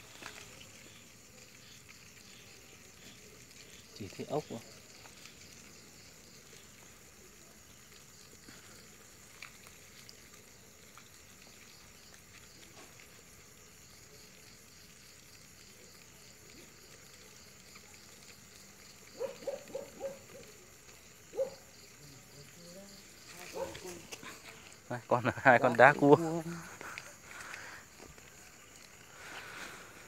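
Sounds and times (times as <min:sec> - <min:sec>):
night insect chorus: 0:00.0 - 0:30.0.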